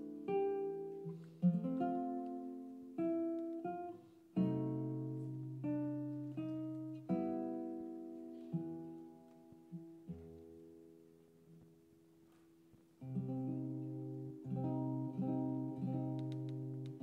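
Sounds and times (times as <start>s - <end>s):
classical guitar playing: 0.0s - 12.1s, 12.9s - 17.0s.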